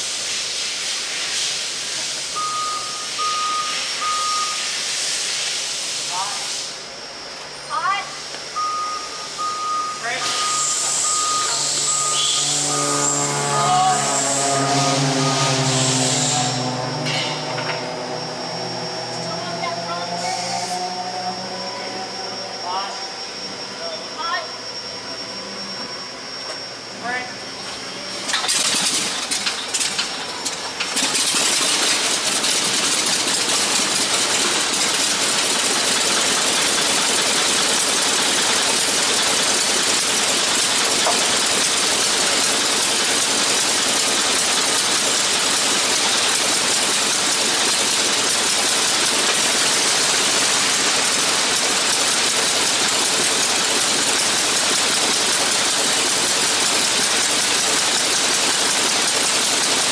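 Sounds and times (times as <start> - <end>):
aircraft engine starting: 8.0 - 59.9.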